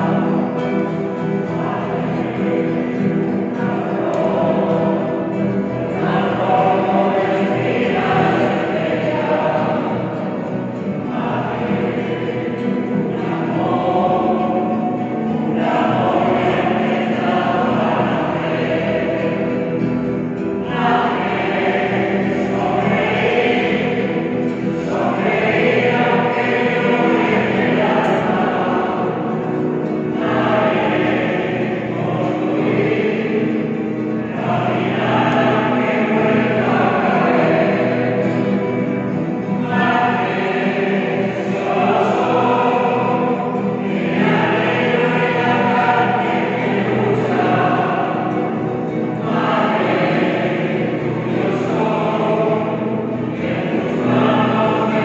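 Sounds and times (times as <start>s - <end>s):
acoustic guitar: 0.0s - 55.0s
choir singing a hymn: 0.0s - 55.0s.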